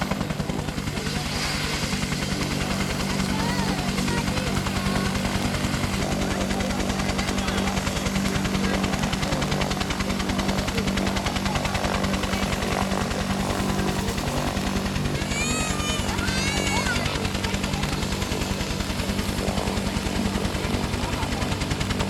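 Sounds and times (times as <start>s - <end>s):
helicopter rotor beating: 0.0s - 22.0s
helicopter turbine hum: 0.0s - 22.0s.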